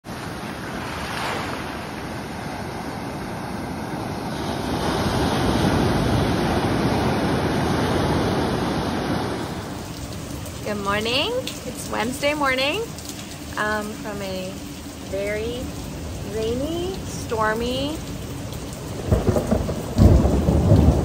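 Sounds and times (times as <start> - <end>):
ocean surf: 0.0 - 21.0.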